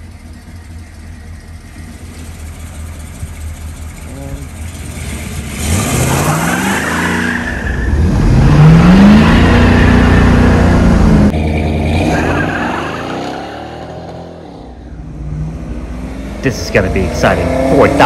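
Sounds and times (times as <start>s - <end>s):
car engine at full throttle: 0.0s - 18.0s.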